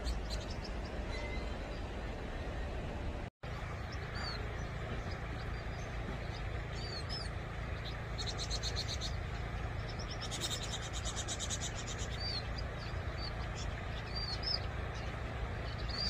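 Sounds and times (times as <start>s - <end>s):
bird chirps and twittering trills: 0.0s - 2.2s, 3.5s - 16.0s
low background rumble: 0.0s - 16.0s.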